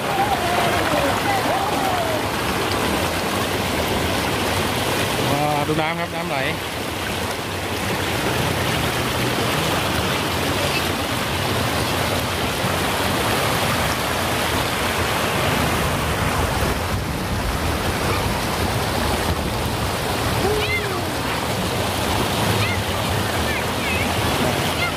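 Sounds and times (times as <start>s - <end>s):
waterfall pouring and splashing: 0.0s - 24.9s.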